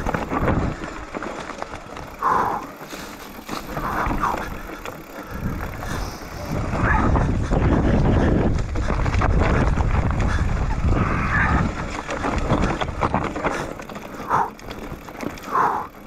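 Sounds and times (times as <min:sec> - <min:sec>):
bike rattling: 0:00.0 - 0:16.0
bike tyres crunching over stones: 0:00.0 - 0:16.0.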